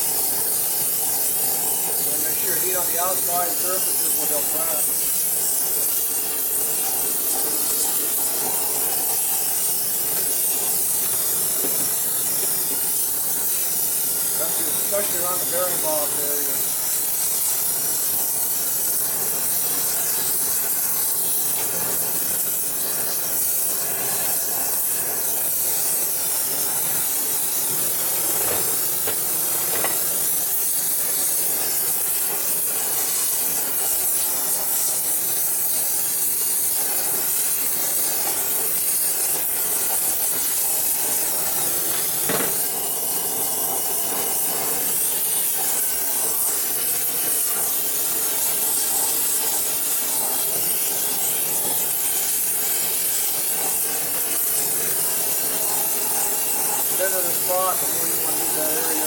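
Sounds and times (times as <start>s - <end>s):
gas torch flame hissing: 0.0s - 59.0s.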